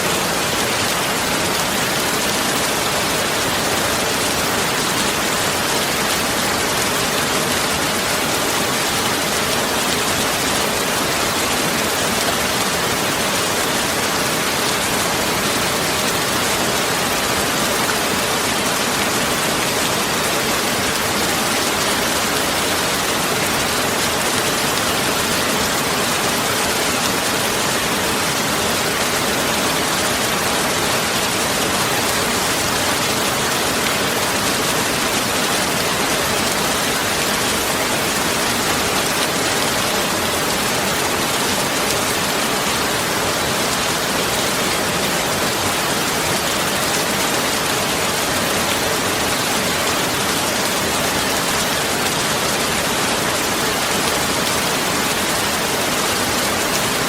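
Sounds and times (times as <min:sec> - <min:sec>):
heavy rain rushing: 0:00.0 - 0:57.0.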